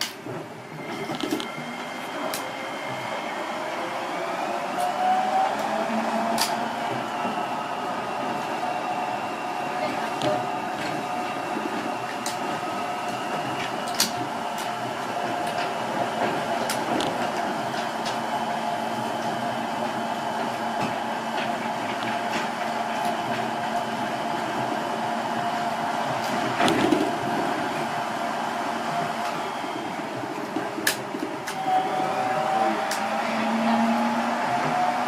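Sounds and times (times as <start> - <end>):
train car rolling noise: 0.0 - 35.0.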